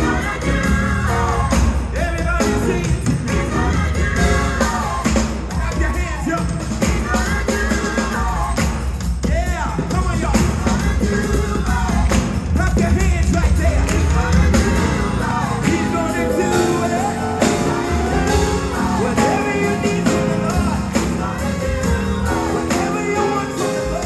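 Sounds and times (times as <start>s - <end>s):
band with drums and bass: 0.0s - 24.0s
gospel choir singing: 0.0s - 24.0s.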